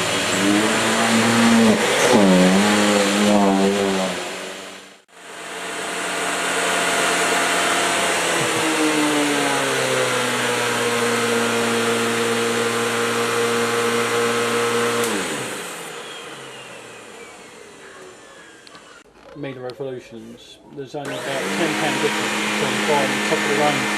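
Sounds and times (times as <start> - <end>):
vacuum cleaner running: 0.0 - 19.0, 21.1 - 23.9
vacuum motor winding down: 0.0 - 19.0, 21.1 - 23.9.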